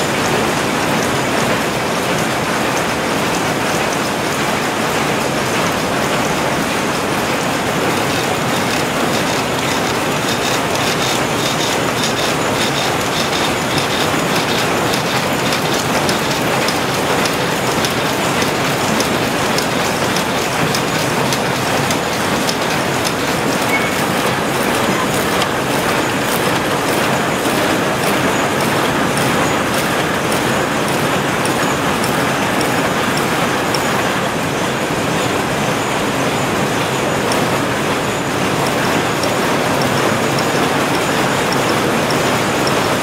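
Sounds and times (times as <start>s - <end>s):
power looms clattering: 0.0s - 43.0s.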